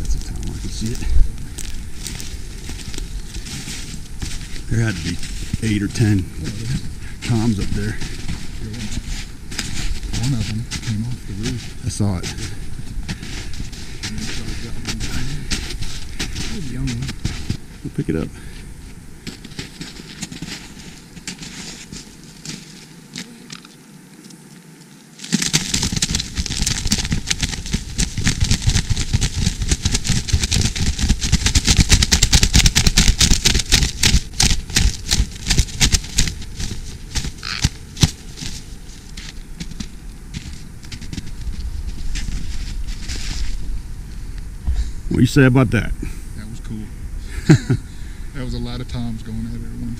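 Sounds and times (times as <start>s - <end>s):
footsteps crunching through snow: 0.0s - 45.6s.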